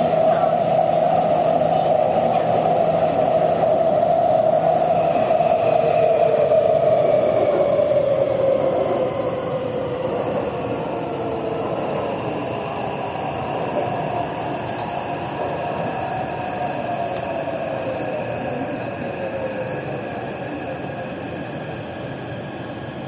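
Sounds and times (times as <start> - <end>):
train motor whine: 0.0 - 23.0
train wheels rumbling: 0.0 - 23.0.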